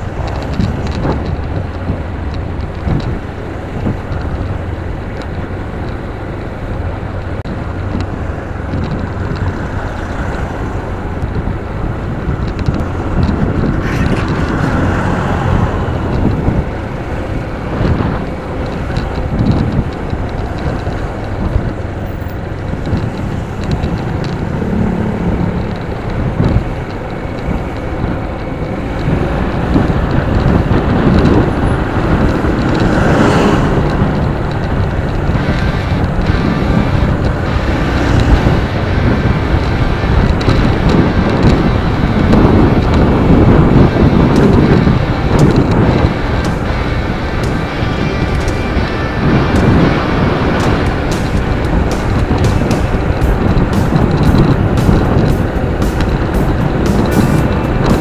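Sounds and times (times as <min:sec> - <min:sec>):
motorcycle engine running: 0:00.0 - 0:58.0
trucks and cars passing: 0:00.0 - 0:58.0
wind noise on microphone: 0:00.0 - 0:58.0.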